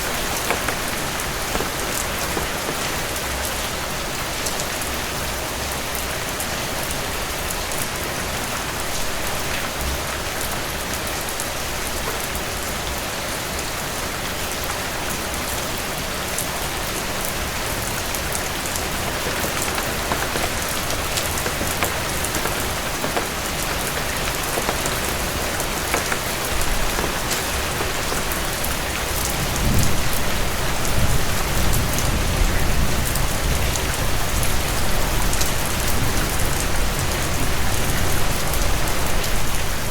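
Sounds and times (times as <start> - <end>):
heavy rain on porch: 0.0 - 39.9.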